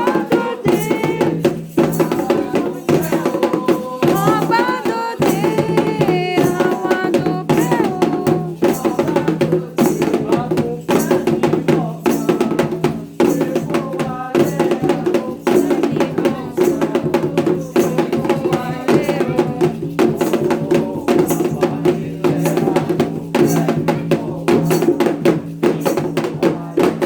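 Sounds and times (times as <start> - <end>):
group singing: 0.0 - 27.0
hand drums playing: 0.0 - 27.0.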